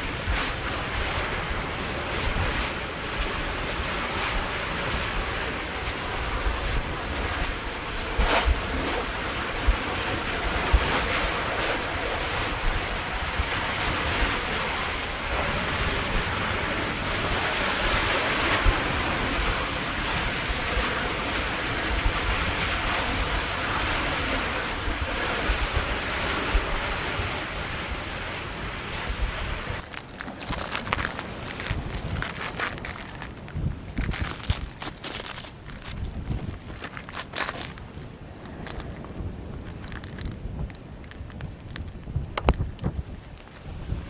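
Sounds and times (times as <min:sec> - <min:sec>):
wind on microphone: 0:00.0 - 0:44.0.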